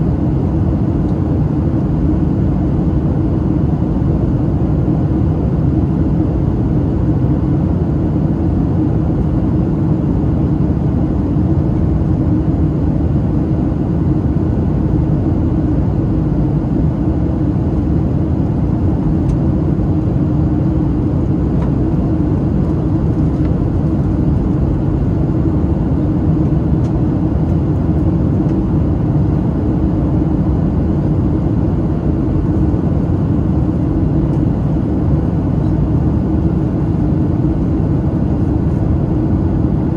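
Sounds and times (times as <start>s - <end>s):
jet engine hum: 0.0s - 39.9s.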